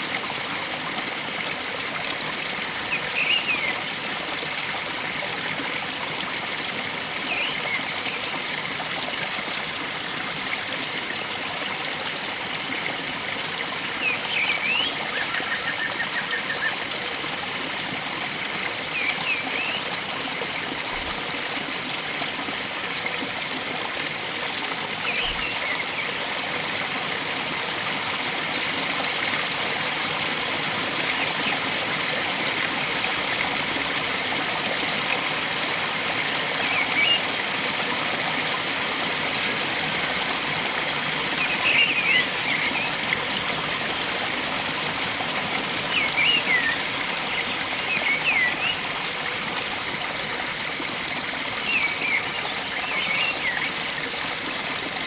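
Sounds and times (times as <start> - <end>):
water rushing: 0.0 - 55.0.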